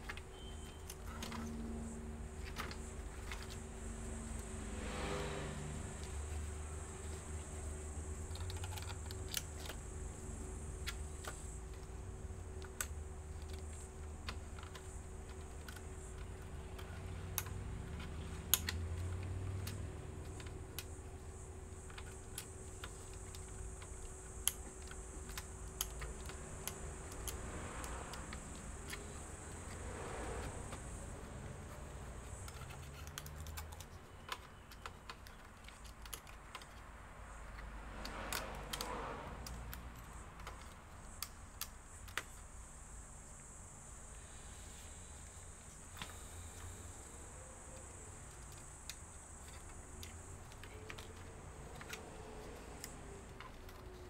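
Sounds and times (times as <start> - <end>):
faint steady hum: 0.0 - 54.0
small plastic and metal clicks: 7.0 - 42.6, 44.7 - 54.0.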